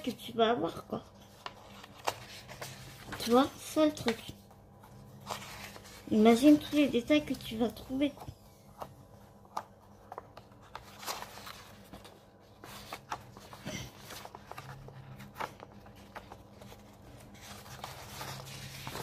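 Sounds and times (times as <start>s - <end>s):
low steady hum: 0.0s - 19.0s
paper pages rustling: 1.1s - 19.0s.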